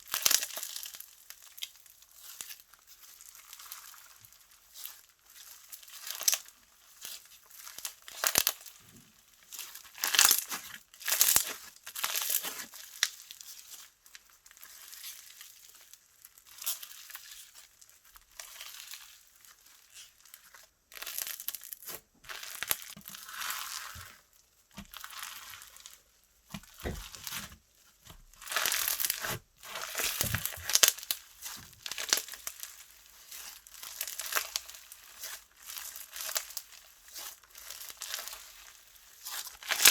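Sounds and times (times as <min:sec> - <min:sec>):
slime crackling and crinkling: 0:00.0 - 0:39.9.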